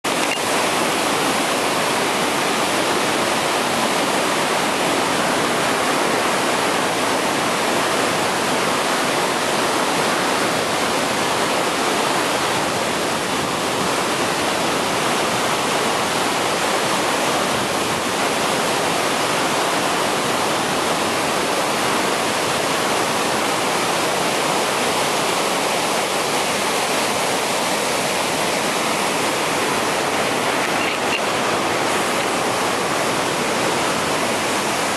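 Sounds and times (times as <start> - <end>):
rushing falling water: 0.0 - 34.9.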